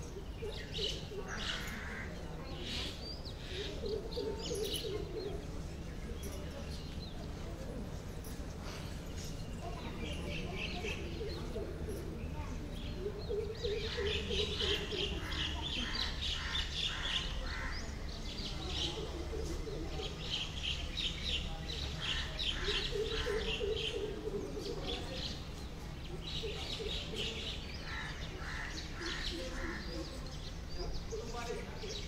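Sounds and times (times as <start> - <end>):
birds chirping: 0.0 - 32.0
murmur of voices: 0.0 - 32.0.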